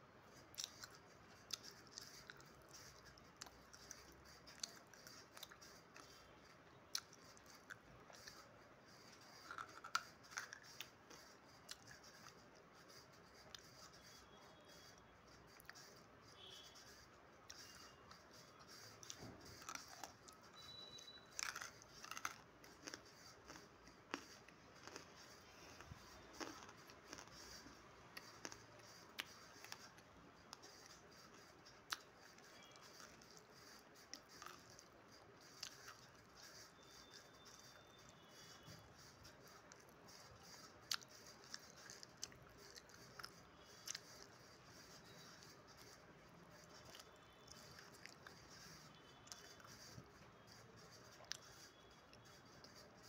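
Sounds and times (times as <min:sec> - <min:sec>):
dry clay crunching when chewed: 0:00.4 - 0:06.2, 0:06.8 - 0:16.9, 0:17.5 - 0:52.8.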